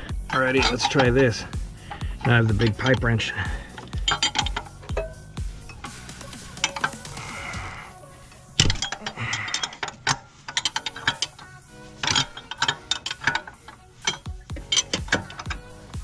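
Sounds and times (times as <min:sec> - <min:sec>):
metal tools clicking and clanking: 0:00.0 - 0:16.0.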